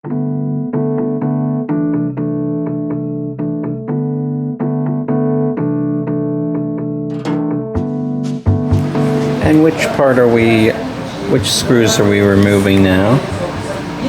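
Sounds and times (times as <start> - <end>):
keyboard piano chords: 0.0 - 14.0.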